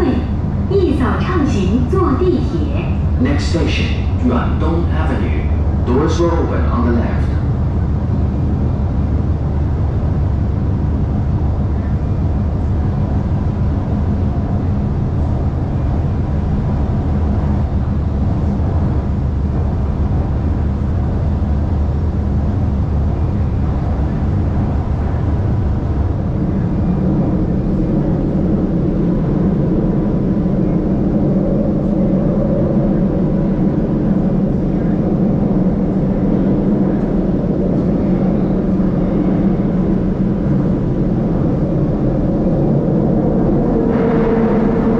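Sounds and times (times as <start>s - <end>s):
faint hum: 0.0s - 44.9s
train wheels rumbling on rail: 0.0s - 44.9s.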